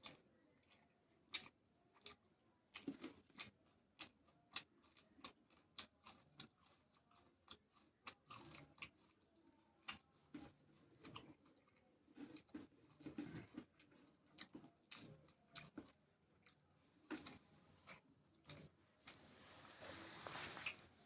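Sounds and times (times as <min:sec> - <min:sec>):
chewing raw vegetables: 0:00.0 - 0:21.0.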